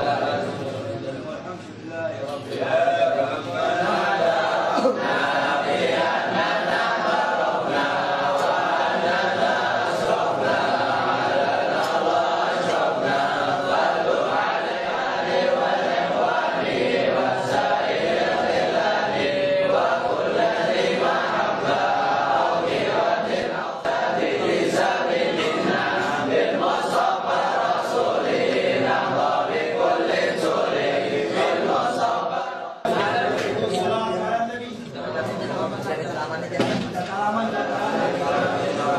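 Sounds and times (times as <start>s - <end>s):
crowd of men chanting: 2.5s - 33.9s, 37.4s - 38.9s.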